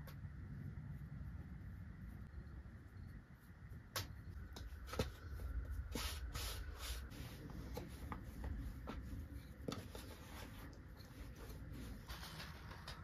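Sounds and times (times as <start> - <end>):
rolling pin rolling dough: 0.2 - 13.0.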